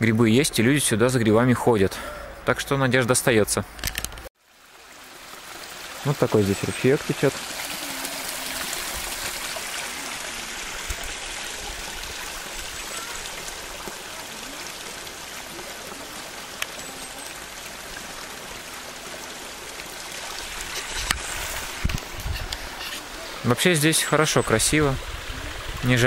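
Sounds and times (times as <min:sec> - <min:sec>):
brook running over rocks: 0:04.4 - 0:26.0.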